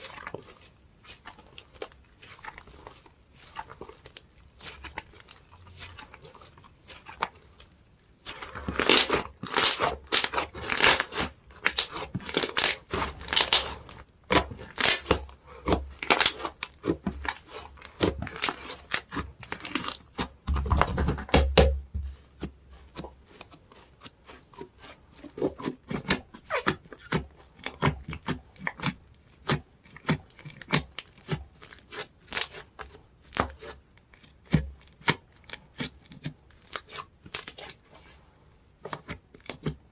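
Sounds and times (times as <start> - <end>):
sticky slime squishing and tearing: 0.0 - 38.2, 38.8 - 39.9.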